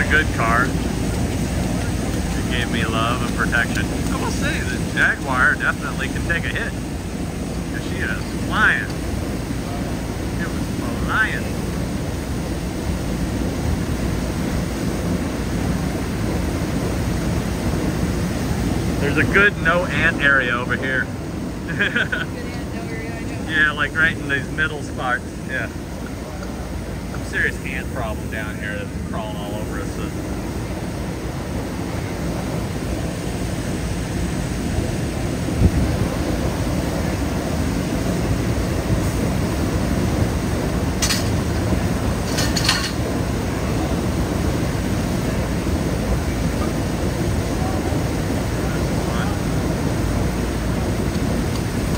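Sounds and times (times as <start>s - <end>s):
water gushing from fire hydrant: 0.0s - 51.9s.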